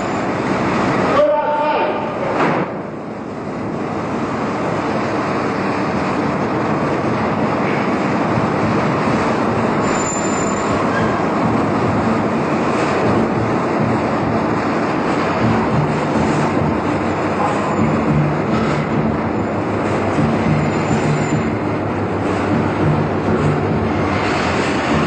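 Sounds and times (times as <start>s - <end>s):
vehicle rushing noise: 2.2s - 25.0s.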